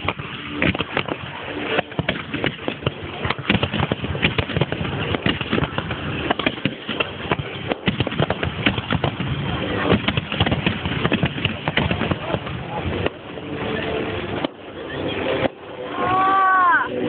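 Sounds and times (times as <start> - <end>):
fireworks bangs and crackle: 0.0 - 15.8.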